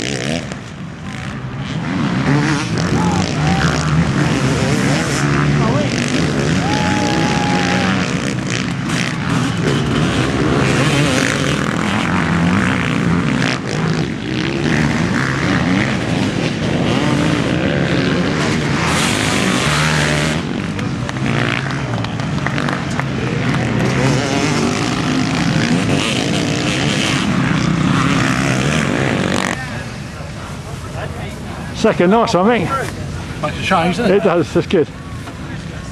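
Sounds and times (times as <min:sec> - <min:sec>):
motocross bike engines revving: 0:00.0 - 0:35.9.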